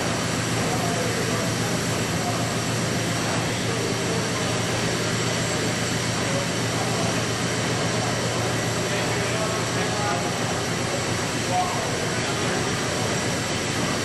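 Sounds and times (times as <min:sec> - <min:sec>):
steam engine running: 0:00.0 - 0:14.0.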